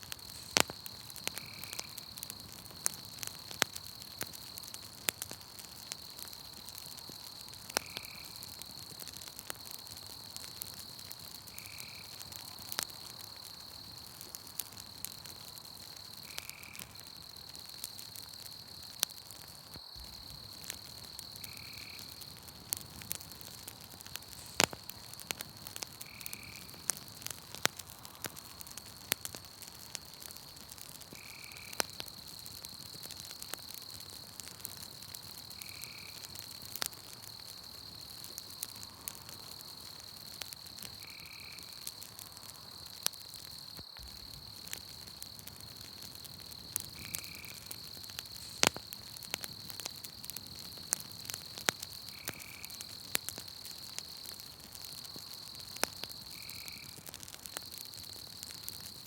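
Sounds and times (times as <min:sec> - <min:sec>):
campfire crackling and popping: 0:00.0 - 0:59.0
night insects trilling: 0:00.0 - 0:59.0.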